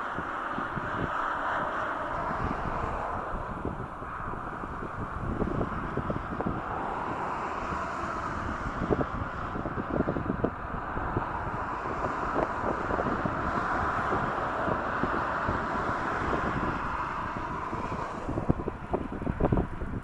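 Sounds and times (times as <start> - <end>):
jet engine roar: 0.0 - 20.0
wind buffeting microphone: 0.0 - 20.0.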